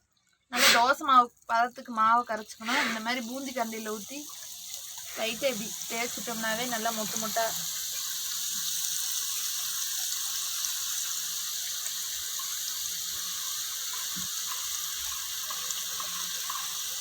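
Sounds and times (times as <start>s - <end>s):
hot oil sizzling: 0.6s - 17.0s.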